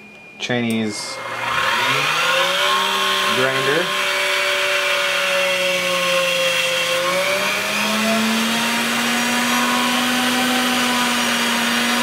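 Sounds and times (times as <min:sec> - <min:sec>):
bench grinder whining: 0:01.0 - 0:12.0.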